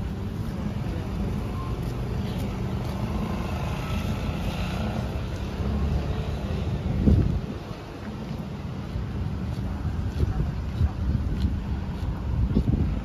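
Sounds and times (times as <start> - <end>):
motor traffic: 0.0 - 13.0.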